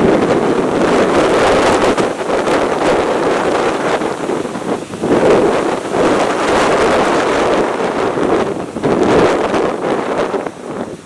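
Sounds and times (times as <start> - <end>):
strong gusting wind: 0.0 - 11.0
wind buffeting the microphone: 0.0 - 11.0.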